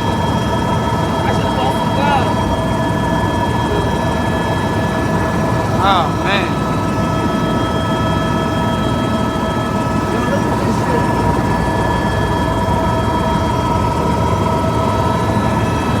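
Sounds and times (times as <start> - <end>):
helicopter rotor low rumble: 0.0 - 16.0
high-pitched turbine whine: 0.0 - 16.0.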